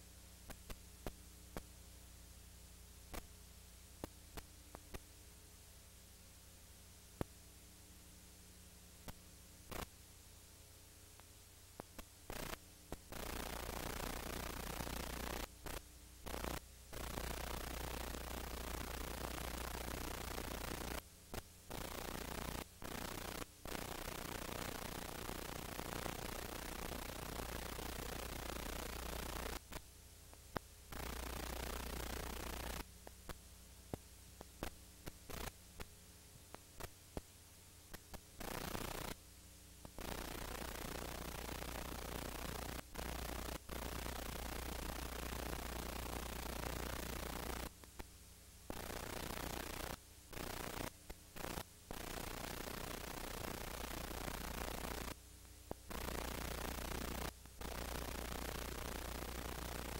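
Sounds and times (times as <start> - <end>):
low mains hum: 0.0 - 59.9
static hiss: 0.0 - 59.9
scattered clicks: 0.4 - 1.7, 3.1 - 3.3, 4.0 - 5.1, 9.0 - 9.9, 11.2 - 37.3, 37.9 - 39.2, 39.8 - 48.1, 48.7 - 59.9.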